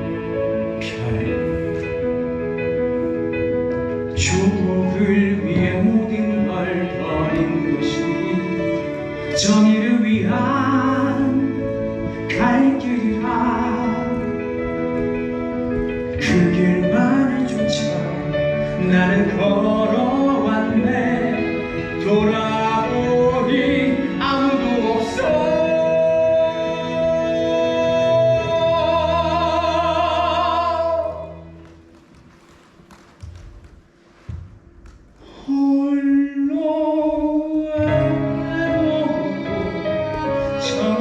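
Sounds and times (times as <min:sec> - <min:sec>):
musical accompaniment: 0:00.0 - 0:41.0.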